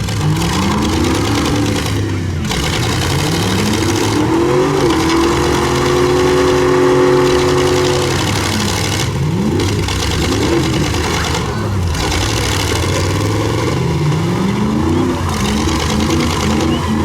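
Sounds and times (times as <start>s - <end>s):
din of running engines: 0.0s - 17.0s
truck engine revving: 0.0s - 17.0s.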